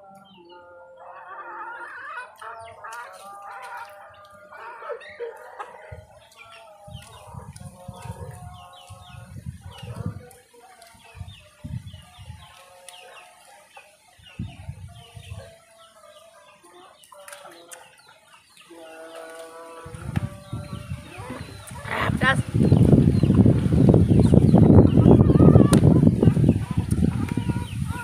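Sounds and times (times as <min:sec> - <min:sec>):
chickens clucking: 0:00.0 - 0:28.0
small birds chirping: 0:01.8 - 0:28.0.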